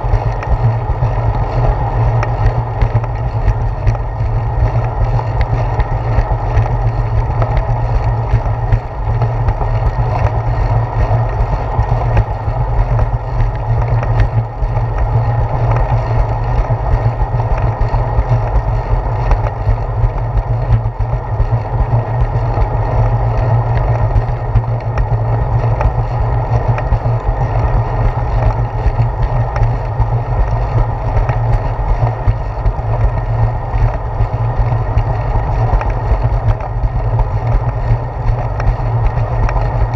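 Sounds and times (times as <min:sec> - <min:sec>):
road vibration rumble: 0:00.0 - 0:39.9.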